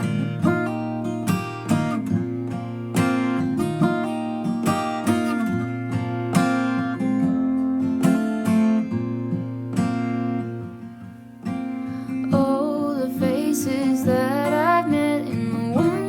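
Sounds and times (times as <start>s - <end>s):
strummed acoustic guitar chords: 0.0s - 16.0s.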